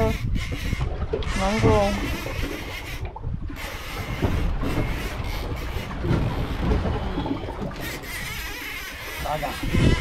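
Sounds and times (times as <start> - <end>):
water against boat hull: 0.0 - 10.0
wind buffeting microphone: 0.0 - 10.0.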